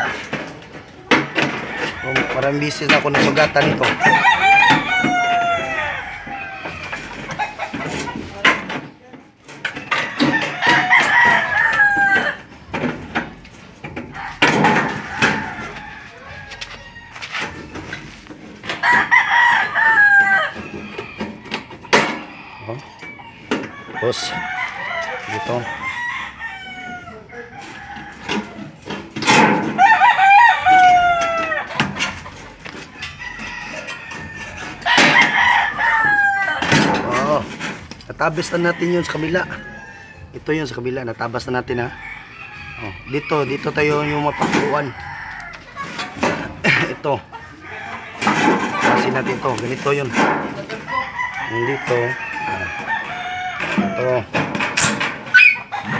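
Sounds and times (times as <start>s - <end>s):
rooster crowing: 1.4s - 7.8s, 9.9s - 12.5s, 14.0s - 28.8s, 29.6s - 32.0s, 33.0s - 37.4s, 38.3s - 40.7s, 41.5s - 46.3s, 47.4s - 55.9s.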